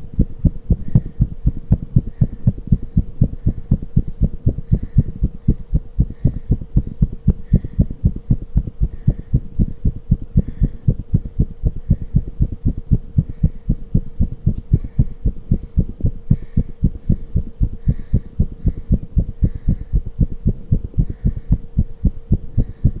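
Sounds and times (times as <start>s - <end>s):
heart pounding fast: 0.0s - 23.0s
steady low hum: 0.0s - 23.0s.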